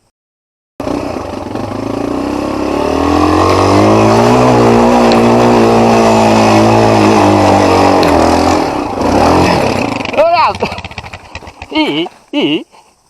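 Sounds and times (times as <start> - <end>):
motorcycle engine revving: 0.8 - 12.2.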